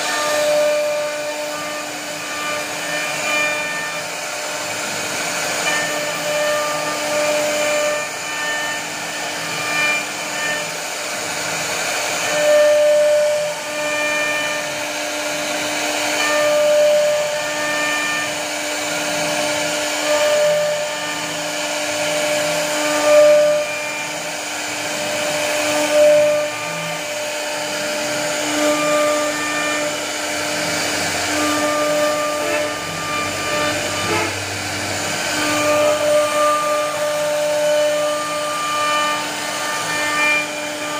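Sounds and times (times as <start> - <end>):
bit cutting wood rasp: 0.0 - 40.9
router spindle whine: 0.0 - 40.9.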